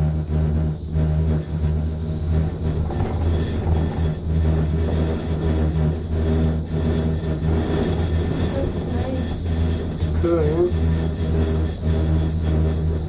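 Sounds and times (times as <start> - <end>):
gondola cabin hum and rumble: 0.0 - 13.0
hiss: 0.0 - 13.0.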